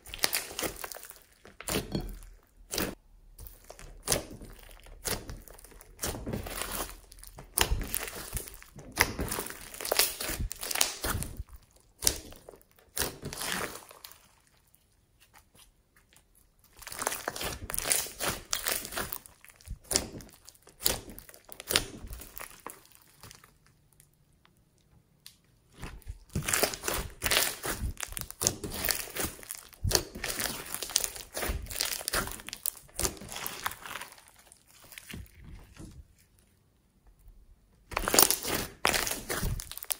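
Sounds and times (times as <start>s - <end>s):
slime crackling and popping: 0.0s - 14.6s, 16.2s - 35.4s, 37.8s - 39.9s.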